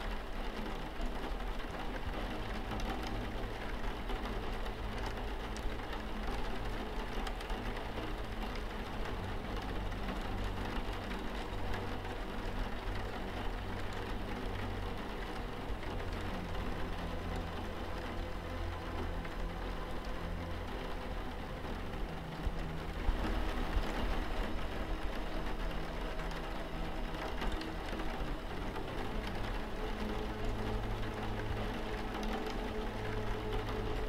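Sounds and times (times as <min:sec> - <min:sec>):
low steady hum: 0:00.0 - 0:34.0
rain on a window: 0:00.0 - 0:34.0.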